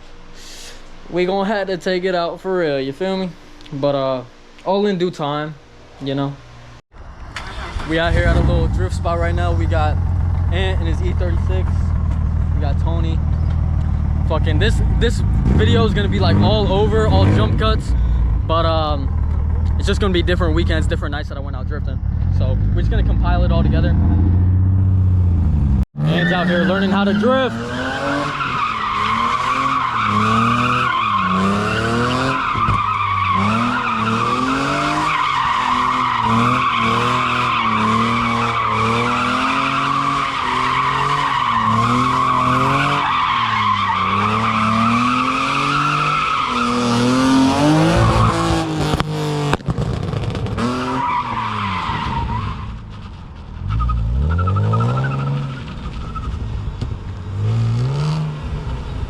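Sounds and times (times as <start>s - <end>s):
car engine revving: 6.9s - 56.6s, 57.2s - 58.9s
tires squealing: 7.0s - 56.7s.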